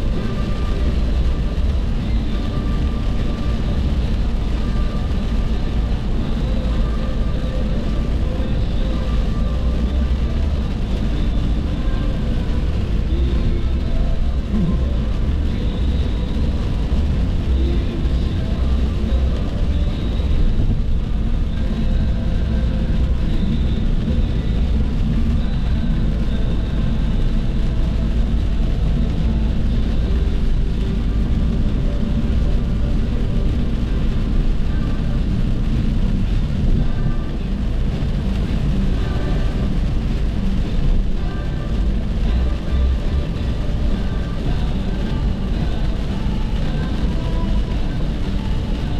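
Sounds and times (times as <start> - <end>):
car driving at highway speed: 0.0 - 48.9.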